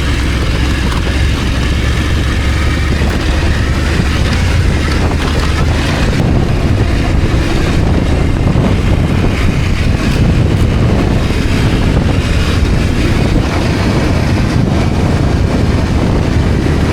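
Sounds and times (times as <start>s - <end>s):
motorcycle engine running: 0.0s - 16.9s
wind noise on microphone: 0.0s - 16.9s.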